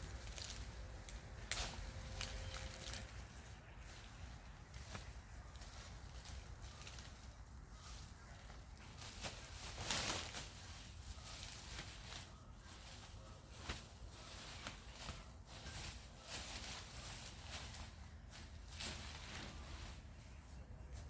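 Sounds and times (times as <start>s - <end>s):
rustling in vegetation: 0.0s - 21.0s.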